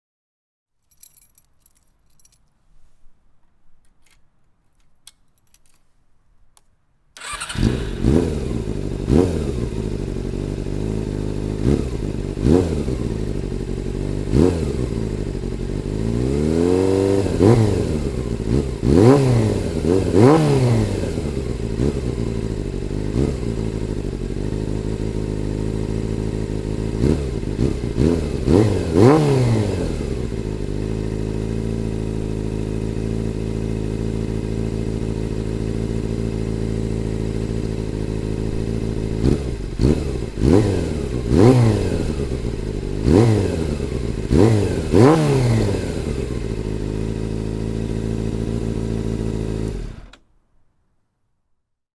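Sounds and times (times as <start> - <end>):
motorcycle engine revving and idling: 7.2 - 50.3.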